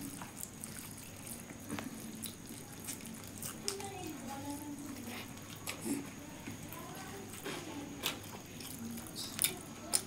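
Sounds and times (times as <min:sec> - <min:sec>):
wet chewing: 0:00.0 - 0:04.3, 0:04.9 - 0:10.0
fingers mixing food on steel plates: 0:00.0 - 0:10.0.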